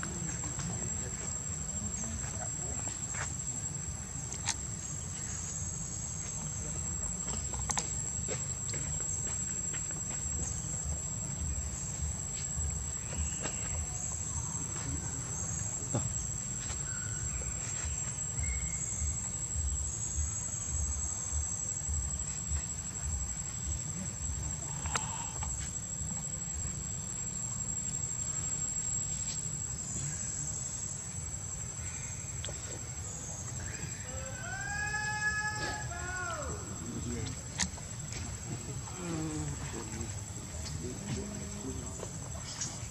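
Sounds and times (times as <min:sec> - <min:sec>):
high-pitched insect trill: 0:00.0 - 0:42.9.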